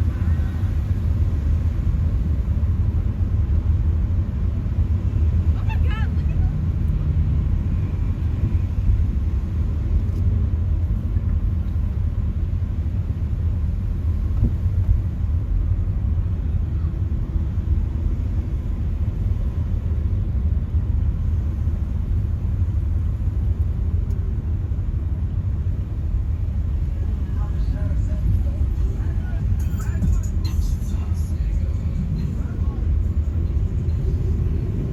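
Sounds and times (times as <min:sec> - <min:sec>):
low rumble of road traffic: 0:00.0 - 0:34.9.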